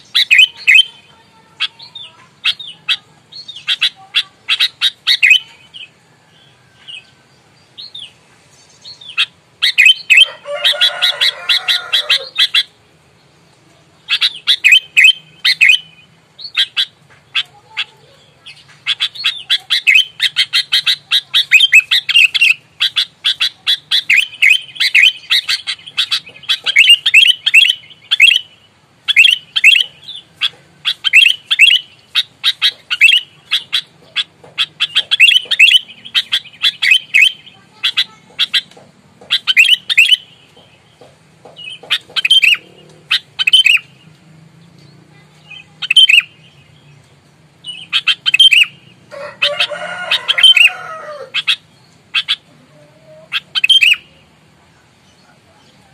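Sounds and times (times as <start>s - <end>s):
bird chirping rapidly: 0.0s - 12.8s, 14.0s - 44.1s, 44.7s - 52.6s, 53.3s - 55.9s.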